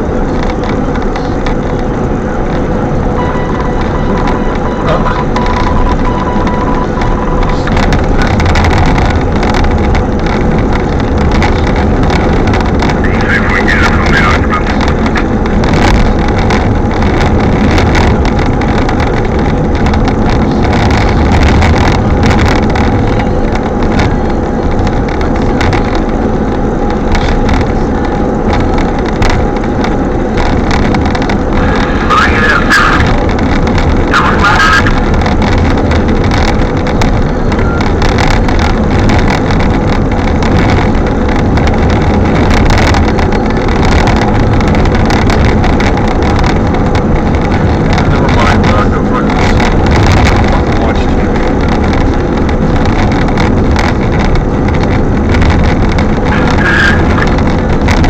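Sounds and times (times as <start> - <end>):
constant hum: 0.0 - 58.0
wind buffeting microphone: 0.0 - 58.0.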